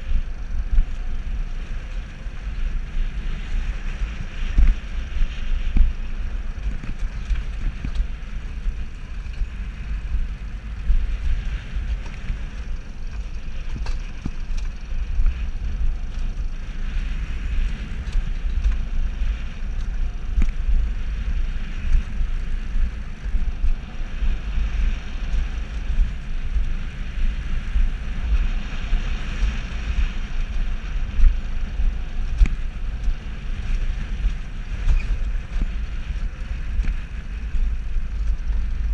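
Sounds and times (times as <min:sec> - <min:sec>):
wheels rumbling on track: 0:00.0 - 0:38.9
wind buffeting microphone: 0:00.0 - 0:38.9.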